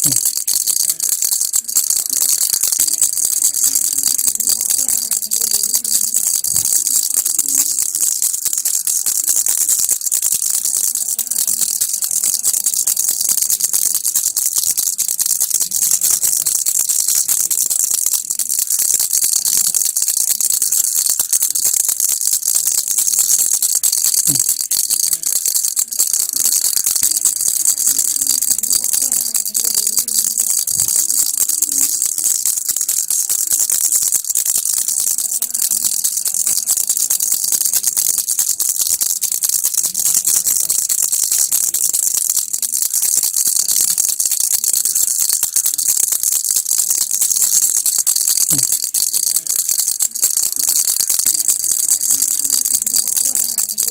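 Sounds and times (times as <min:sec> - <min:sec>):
baby rattle shaken: 0:00.0 - 0:53.9.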